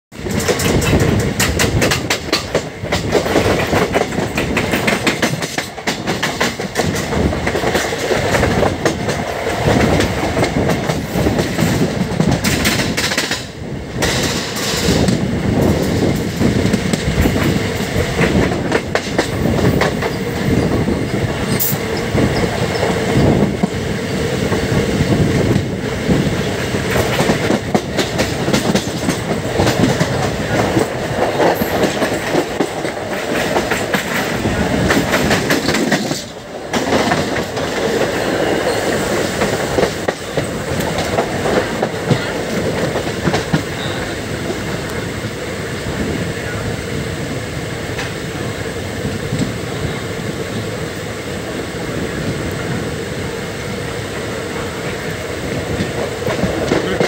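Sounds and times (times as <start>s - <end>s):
train wheels clattering on rails: 0.1s - 57.0s.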